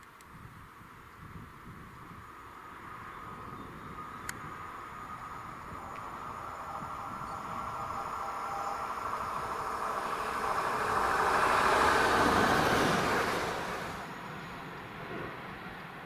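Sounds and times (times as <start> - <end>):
train passing by: 1.0 - 16.0.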